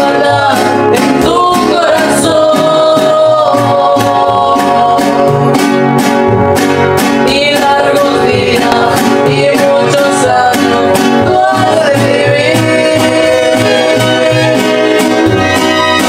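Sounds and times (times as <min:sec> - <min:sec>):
music with guitars and beat: 0:00.0 - 0:16.0.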